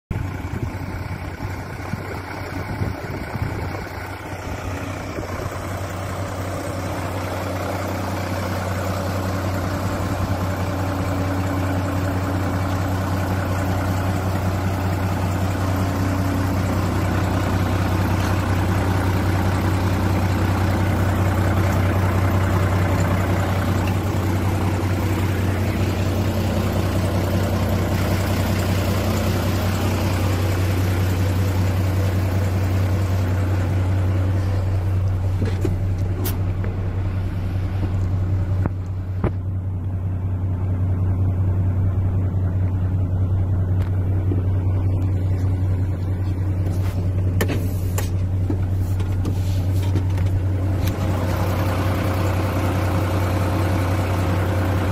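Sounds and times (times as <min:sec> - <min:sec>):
diesel truck engine idling: 0:00.1 - 0:54.9.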